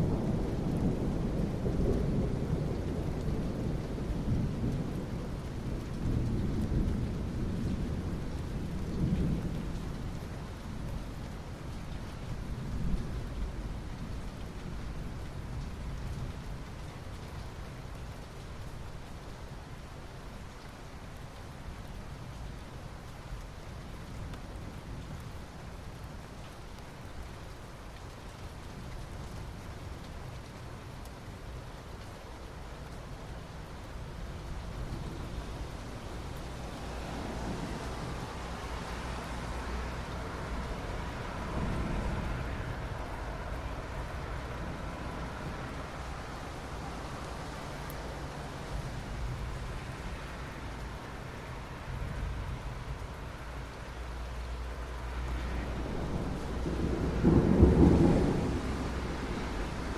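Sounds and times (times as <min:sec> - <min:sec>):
soft rain on asphalt: 0:00.0 - 0:59.9.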